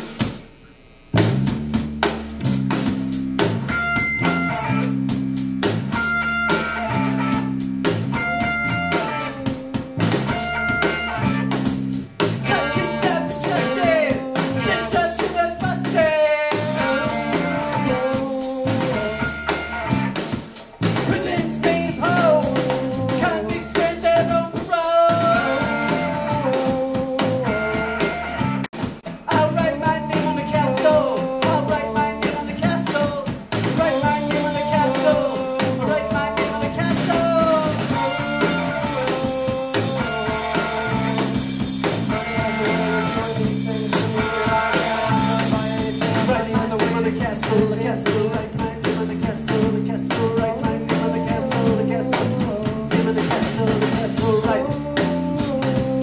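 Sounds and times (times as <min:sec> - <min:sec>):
rock band playing: 0:00.0 - 0:56.0
person singing: 0:05.9 - 0:20.2, 0:21.0 - 0:56.0.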